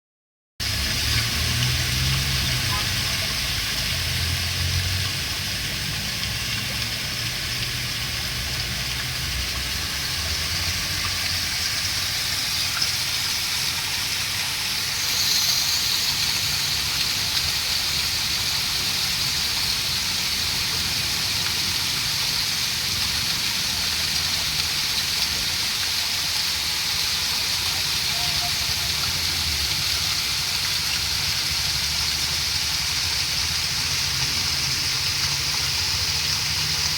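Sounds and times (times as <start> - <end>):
flowing water rushing: 0.6 - 36.9.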